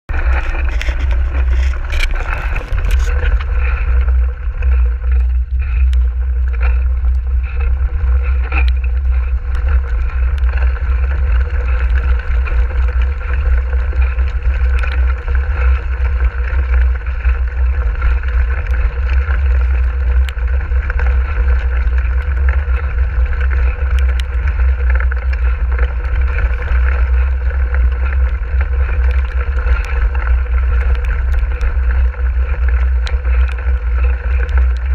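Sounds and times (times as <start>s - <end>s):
tyres through mud and puddles: 0.0s - 34.9s
wind buffeting microphone: 0.0s - 34.9s
bike clicks and rattles: 0.1s - 34.9s.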